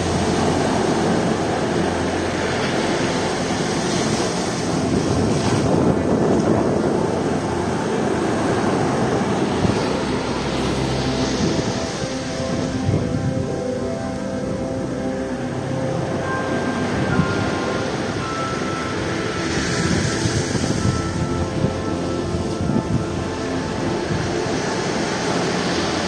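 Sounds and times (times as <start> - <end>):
surf washing up a beach: 0.0 - 26.0.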